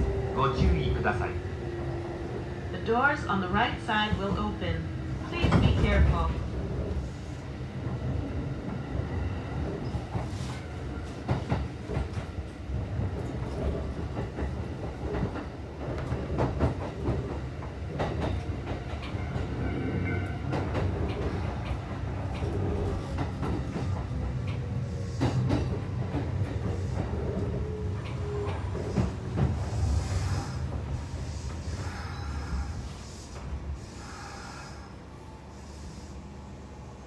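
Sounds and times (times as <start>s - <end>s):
train interior low rumble: 0.0s - 37.0s.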